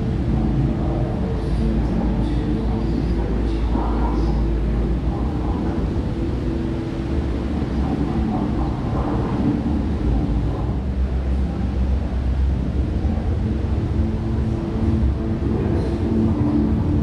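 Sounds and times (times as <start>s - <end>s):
faint hum: 0.0s - 17.0s
low rumble: 0.0s - 17.0s.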